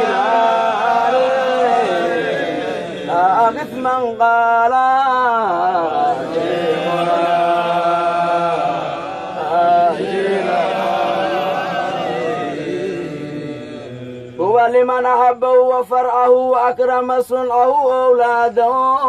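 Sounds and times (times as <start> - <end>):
person chanting: 0.0 - 19.0.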